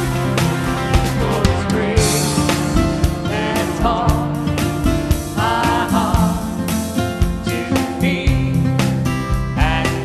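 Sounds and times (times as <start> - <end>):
drums: 0.0 - 10.0
electric guitar: 0.0 - 10.0
strummed acoustic guitar: 0.0 - 10.0
person singing: 1.0 - 8.8, 9.5 - 10.0.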